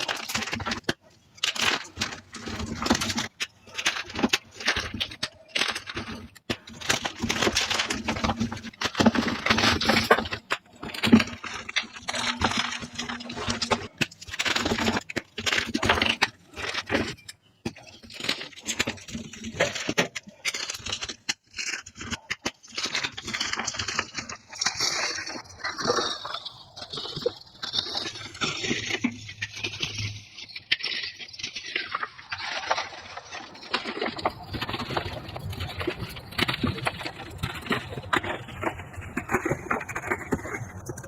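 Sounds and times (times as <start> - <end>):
chalk crunching and crackling: 0.0 - 41.0.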